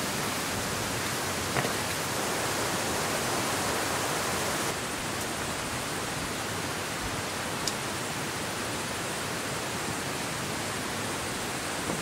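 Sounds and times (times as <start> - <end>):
rain and running water: 0.0 - 12.0.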